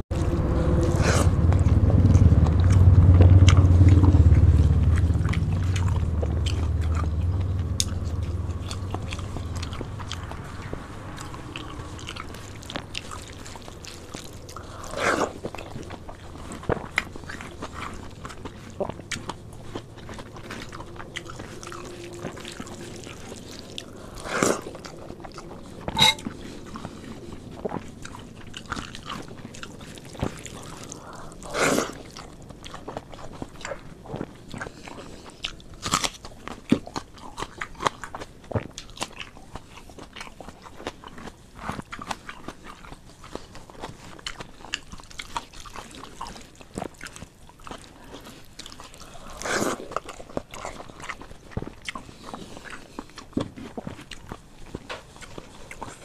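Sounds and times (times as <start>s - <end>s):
close chewing with mouth clicks: 0.1s - 56.0s.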